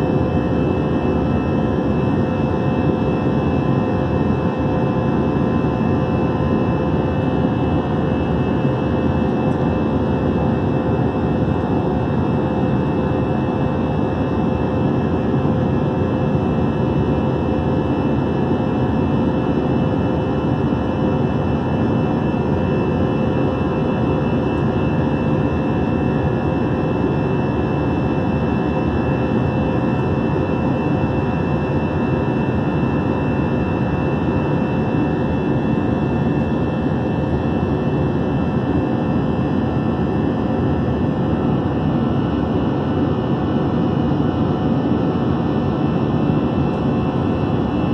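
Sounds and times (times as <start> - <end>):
jet engine and airflow roar: 0.0 - 47.9.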